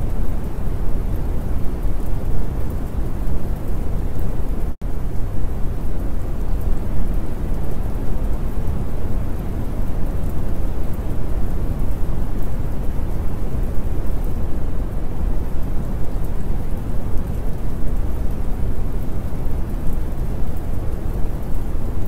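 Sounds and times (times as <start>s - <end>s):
rain and thunder rumbling: 0.0s - 22.0s.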